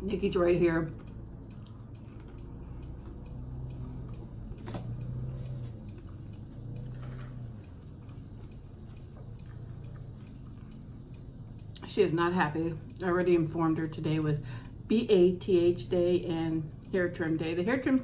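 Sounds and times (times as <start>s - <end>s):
low hum: 0.0s - 18.0s
wall clock ticking: 0.0s - 18.0s.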